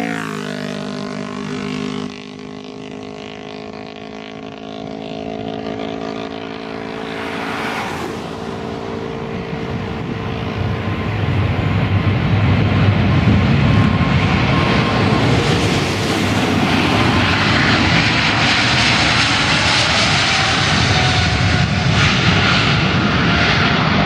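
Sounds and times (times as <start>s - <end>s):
deep jet engine roar: 0.0s - 24.0s
jet engine whine: 0.0s - 24.0s.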